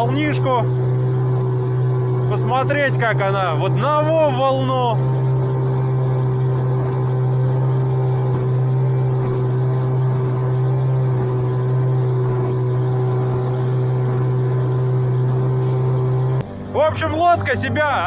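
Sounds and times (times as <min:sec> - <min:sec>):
boat on choppy water: 0:00.0 - 0:18.0
outboard motor running: 0:00.0 - 0:18.0.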